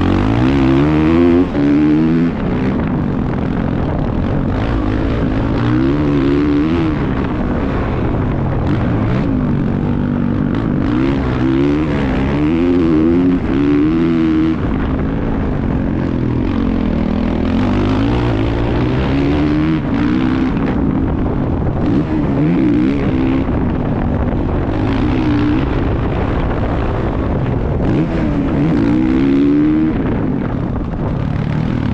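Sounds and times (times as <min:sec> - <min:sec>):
motocross bike engine revving: 0:00.0 - 0:31.9
wind rumble: 0:00.0 - 0:31.9.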